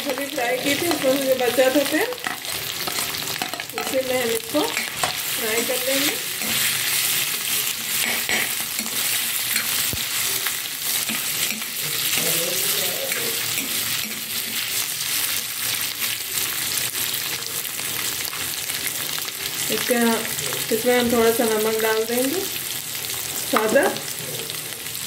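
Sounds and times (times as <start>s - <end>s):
potatoes sizzling in oil: 0.0s - 25.0s.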